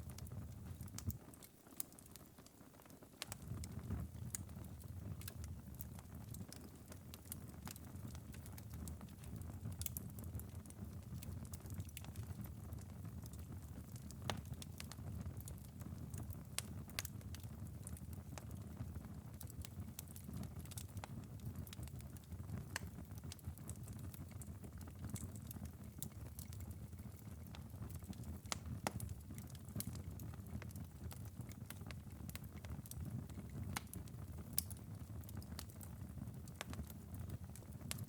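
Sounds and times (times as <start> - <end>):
low fire rumble: 0.0 - 1.2, 3.2 - 38.0
embers crackling and popping: 0.0 - 38.0.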